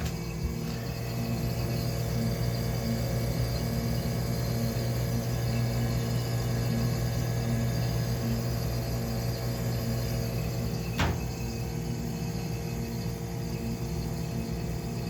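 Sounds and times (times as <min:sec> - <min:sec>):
dehumidifier humming: 0:00.0 - 0:15.0.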